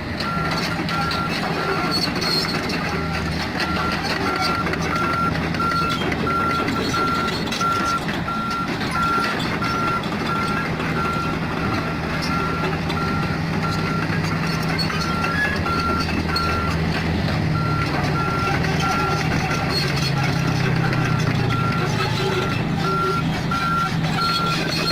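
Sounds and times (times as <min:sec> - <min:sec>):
diesel excavator engine running: 0:00.0 - 0:24.9
reversing alarm beeping: 0:00.2 - 0:24.9.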